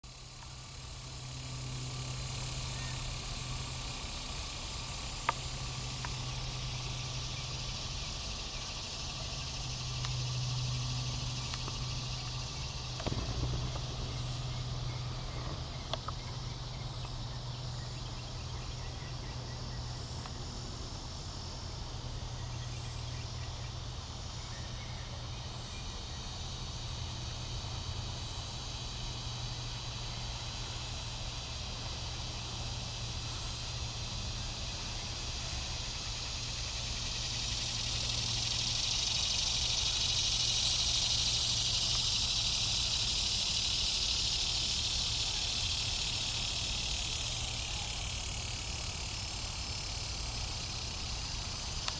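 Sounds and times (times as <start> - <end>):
cicadas buzzing: 0.0 - 51.9
nearer cicada buzz: 0.0 - 51.9.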